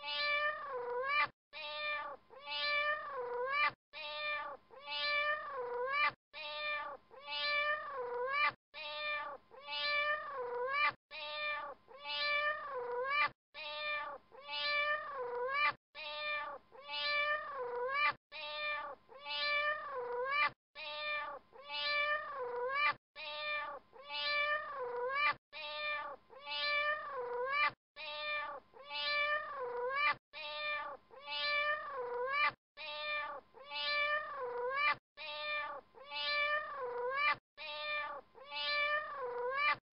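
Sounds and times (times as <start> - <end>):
cat meows: 0.0 - 39.8.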